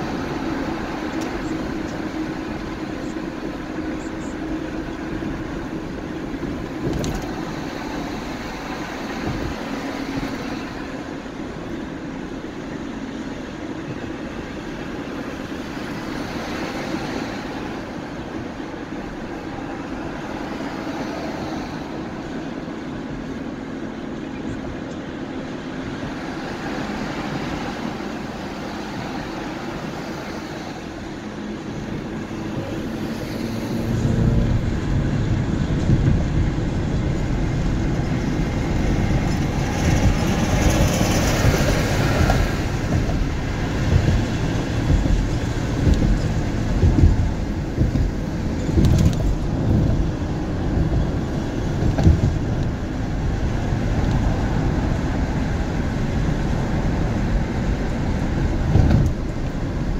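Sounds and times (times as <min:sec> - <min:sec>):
car road noise rumble and hiss: 0:00.0 - 0:59.9.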